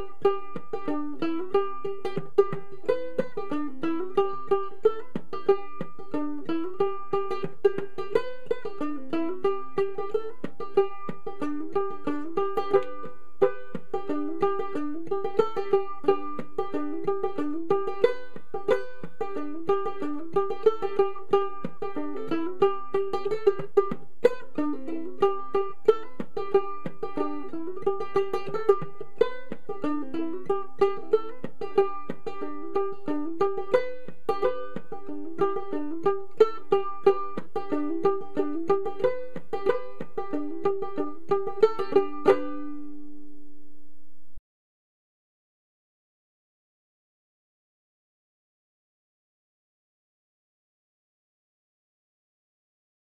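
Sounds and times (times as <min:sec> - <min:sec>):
ukulele plucked fiddle tune: 0:00.0 - 0:43.4.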